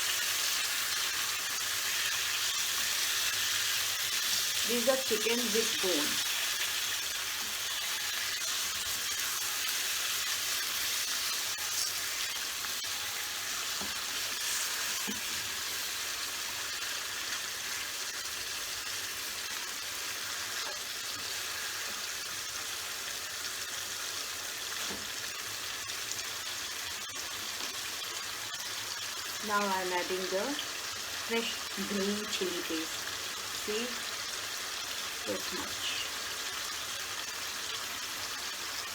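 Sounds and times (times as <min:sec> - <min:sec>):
chicken sizzling in hot oil: 0:00.0 - 0:38.9.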